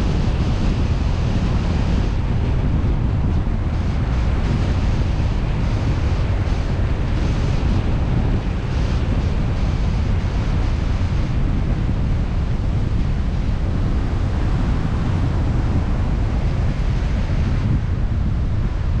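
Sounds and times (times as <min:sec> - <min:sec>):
car wind and road noise: 0:00.0 - 0:19.0.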